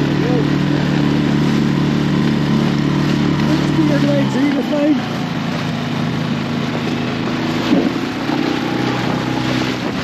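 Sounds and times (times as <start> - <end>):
outboard motor droning: 0.0 - 10.0
rushing water: 0.0 - 10.0
wind: 0.0 - 10.0.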